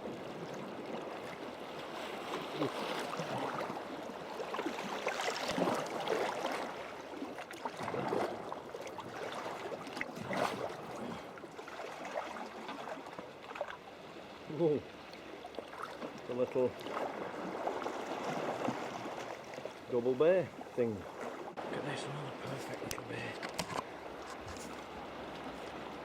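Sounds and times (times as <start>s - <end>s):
paddle splashes: 0.0s - 26.0s
water splashing around kayak: 0.0s - 26.0s.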